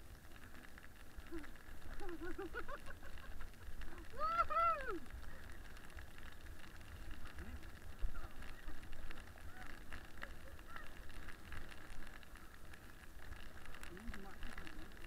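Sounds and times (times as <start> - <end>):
toboggan sliding over snow: 0.0 - 15.0.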